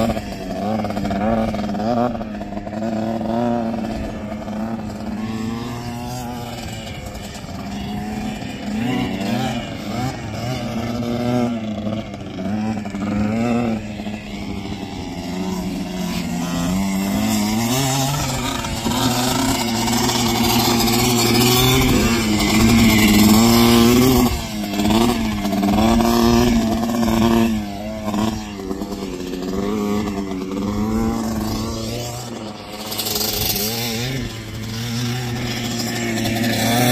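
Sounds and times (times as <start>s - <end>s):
dirt bike and atv engines revving: 0.0s - 36.9s.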